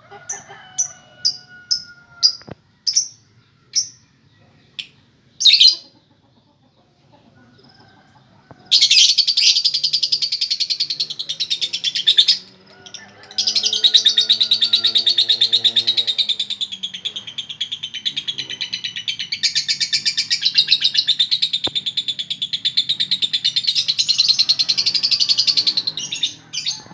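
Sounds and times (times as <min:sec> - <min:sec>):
lovebird chattering song: 0:01.3 - 0:04.0, 0:04.8 - 0:05.8, 0:08.7 - 0:26.9
bird chirp: 0:01.3 - 0:26.9.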